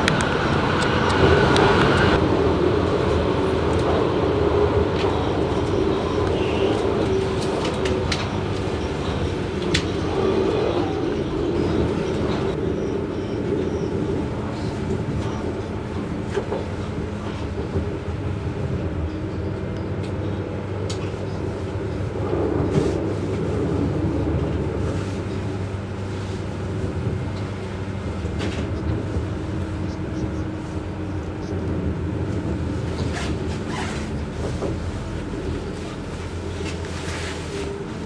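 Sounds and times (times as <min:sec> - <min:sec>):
diesel engine drone: 0:00.0 - 0:38.0
train wheels rumbling on rails: 0:00.0 - 0:38.0.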